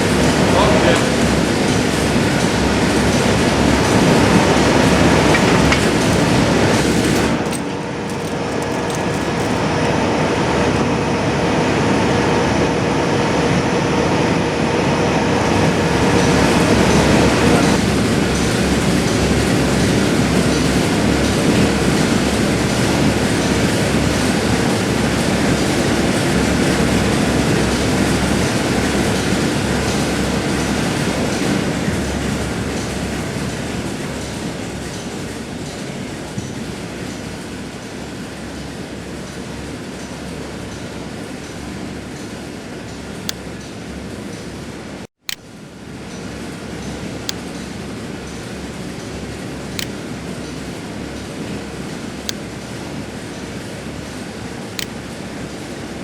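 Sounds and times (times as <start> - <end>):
furnace machinery rumble: 0.0 - 56.0.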